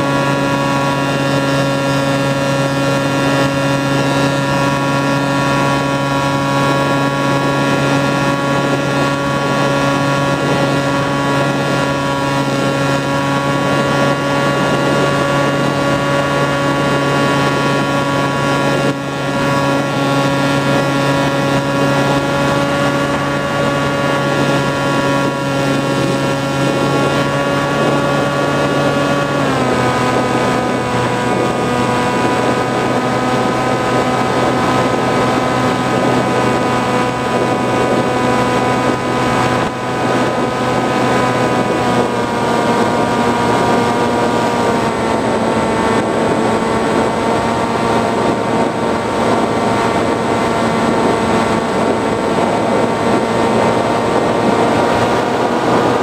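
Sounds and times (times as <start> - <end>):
model plane motor and propeller: 0.0 - 56.0.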